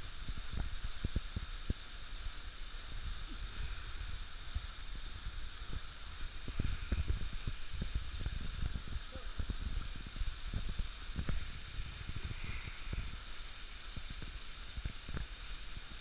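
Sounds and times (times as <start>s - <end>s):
waterfall hissing into pool: 0.0s - 16.0s.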